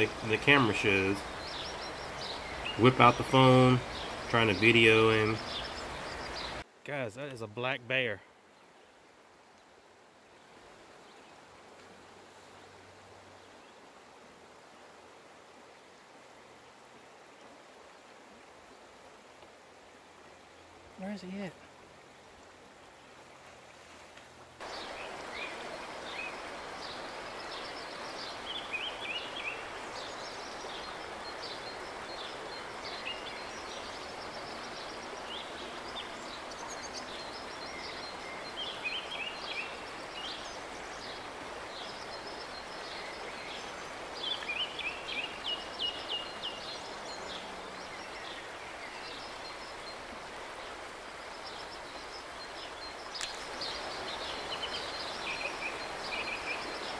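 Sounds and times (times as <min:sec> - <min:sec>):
river flowing: 0:00.0 - 0:56.9
songbirds chirping: 0:00.0 - 0:56.9.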